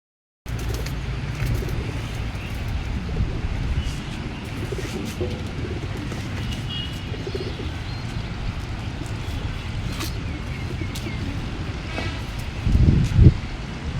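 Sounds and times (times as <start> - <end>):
pigeons cooing: 0.5 - 13.6
small birds chirping: 0.5 - 13.9
steady low rumble: 0.5 - 13.9.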